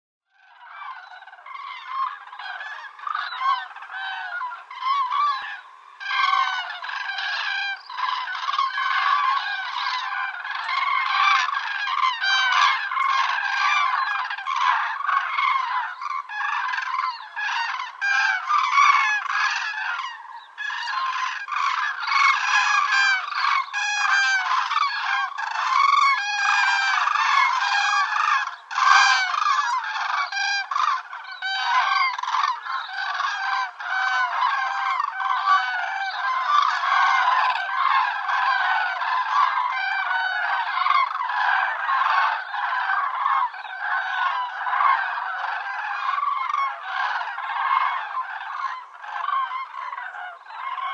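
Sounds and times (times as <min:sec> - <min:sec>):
flock of cranes trumpeting: 0:00.3 - 0:50.9.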